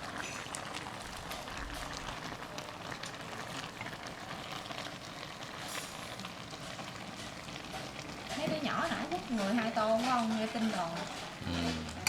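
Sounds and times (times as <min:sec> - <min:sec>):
rain falling steadily: 0:00.0 - 0:12.0.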